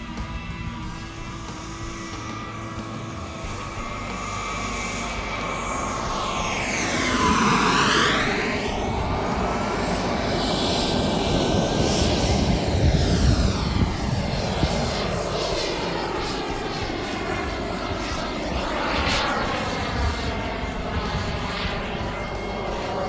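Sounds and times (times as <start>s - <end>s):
model jet turbine passing: 0.0s - 23.0s.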